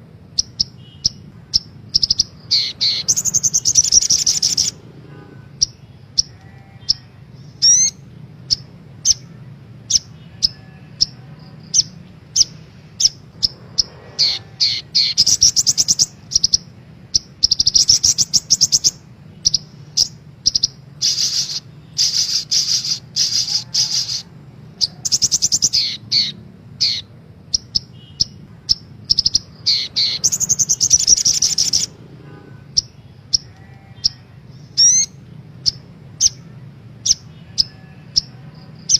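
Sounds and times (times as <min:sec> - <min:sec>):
steady low hum: 0:00.0 - 0:38.9
sunbird singing: 0:00.0 - 0:38.9.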